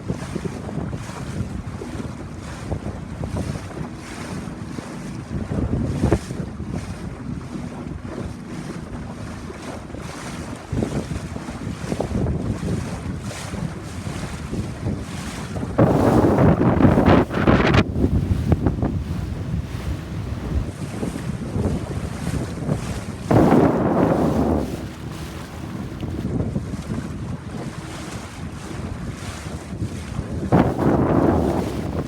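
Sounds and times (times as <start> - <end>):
water splashing against hull: 0.0 - 32.0
wind buffeting microphone: 0.0 - 32.0.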